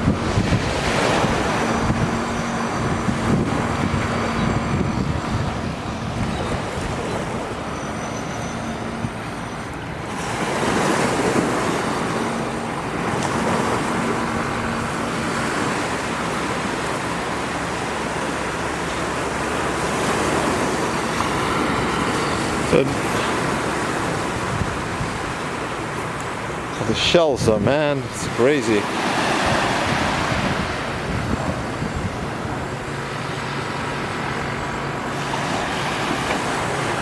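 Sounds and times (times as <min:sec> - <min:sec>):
surf washing on a beach: 0:00.0 - 0:37.0.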